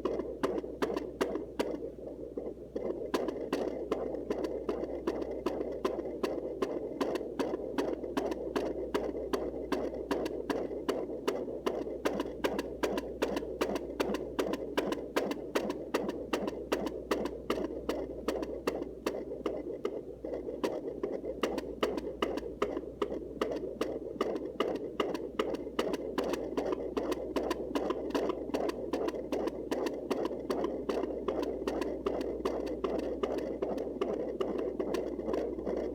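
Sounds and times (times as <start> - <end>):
fetal heartbeat pulse: 0.0 - 35.9.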